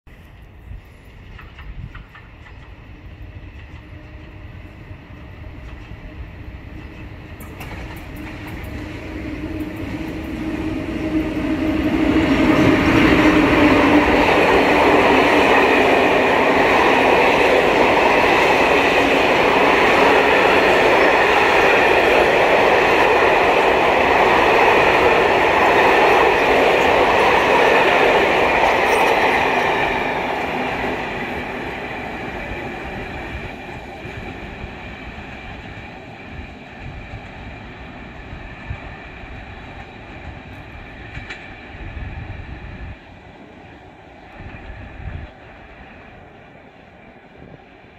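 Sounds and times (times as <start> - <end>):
passenger train passing: 0.1 - 47.9.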